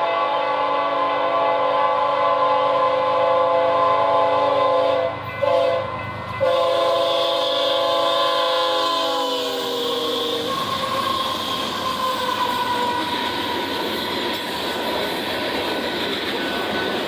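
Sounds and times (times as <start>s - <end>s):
locomotive air horn blasts: 0.0s - 13.9s
passing locomotives rumbling: 0.0s - 17.0s.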